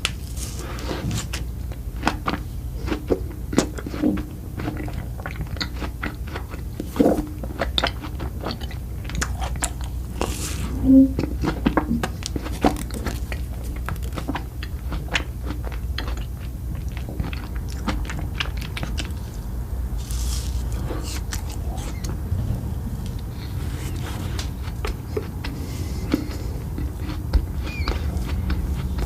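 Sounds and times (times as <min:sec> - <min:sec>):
chewing and crunching food: 0:00.0 - 0:29.0
steady low hum: 0:00.0 - 0:29.0.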